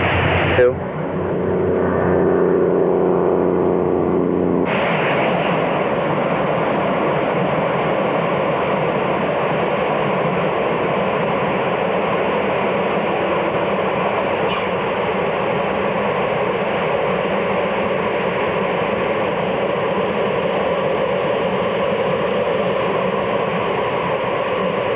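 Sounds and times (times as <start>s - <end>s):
loud steady rushing noise: 0.0s - 24.9s
vehicle engine hum: 0.0s - 24.9s.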